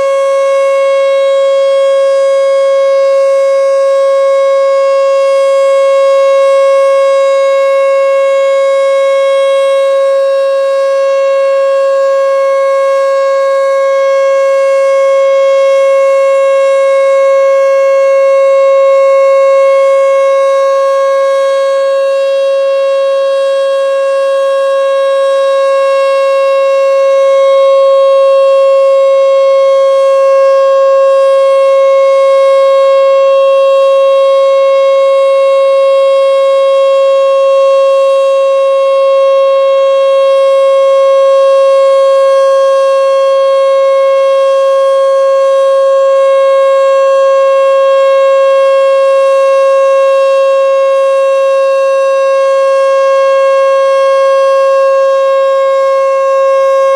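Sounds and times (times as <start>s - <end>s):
warning siren steady tone: 0.0s - 56.9s.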